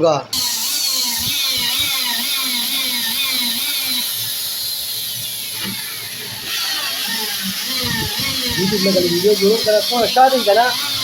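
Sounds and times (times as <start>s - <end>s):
power drill cycling whir: 0.3s - 11.0s.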